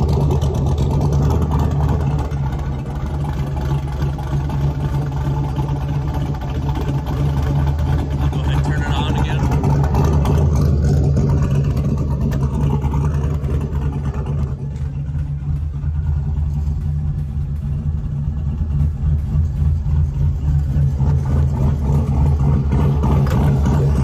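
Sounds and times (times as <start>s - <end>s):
vee eight engine idling choppily: 0.0s - 24.0s.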